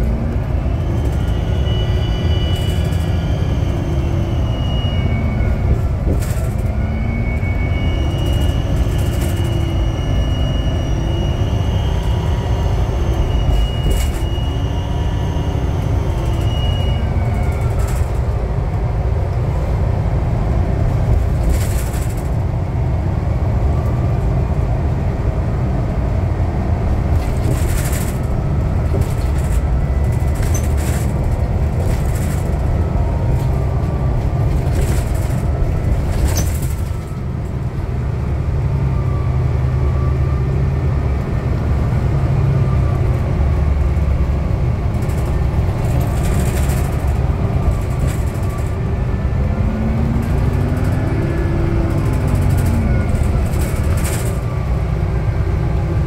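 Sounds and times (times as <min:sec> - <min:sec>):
bus engine and tyres rumbling: 0:00.0 - 0:56.0.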